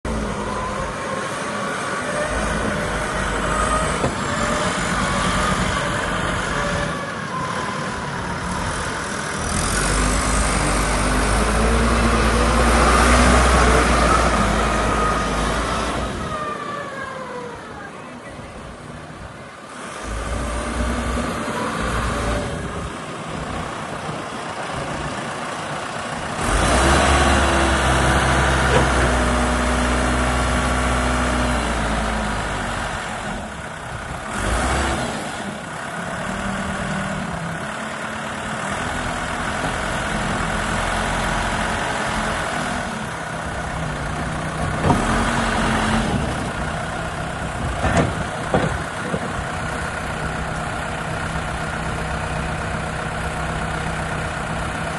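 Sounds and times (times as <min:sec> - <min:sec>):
diesel backhoe engine running: 0:00.0 - 0:54.9.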